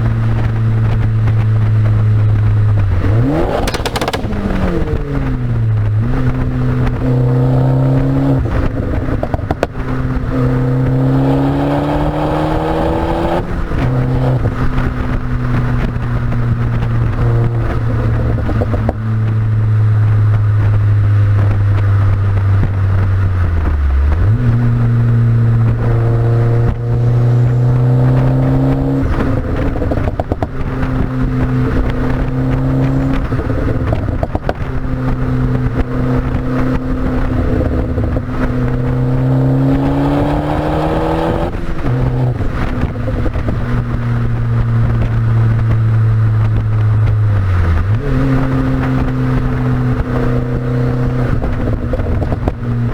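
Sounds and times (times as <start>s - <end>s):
car engine while driving: 0.0s - 52.9s.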